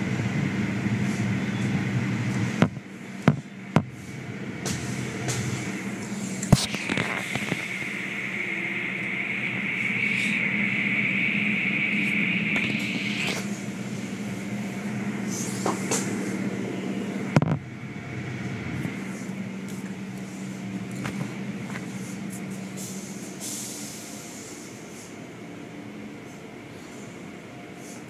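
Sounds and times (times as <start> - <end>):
car wash machinery humming: 0.0 - 23.4.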